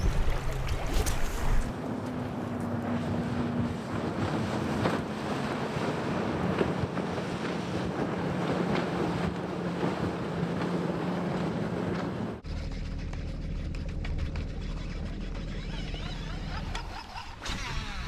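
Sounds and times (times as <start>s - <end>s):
distant outboard motor hum: 0.0s - 18.0s.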